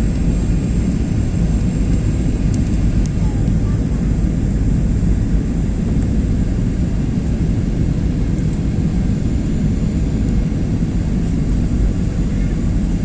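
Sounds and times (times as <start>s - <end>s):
airplane low rumble: 0.0s - 13.0s
faint whine: 0.0s - 13.0s.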